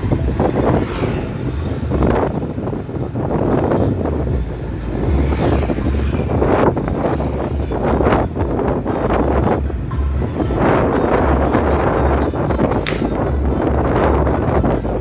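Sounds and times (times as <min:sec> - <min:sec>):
outdoor street noise: 0:00.0 - 0:15.0
wind buffeting microphone: 0:00.0 - 0:15.0.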